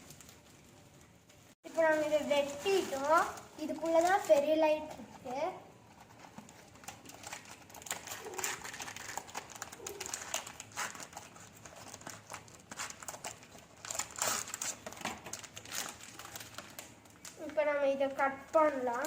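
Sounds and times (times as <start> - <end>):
packaging crinkling: 0.0 - 17.6.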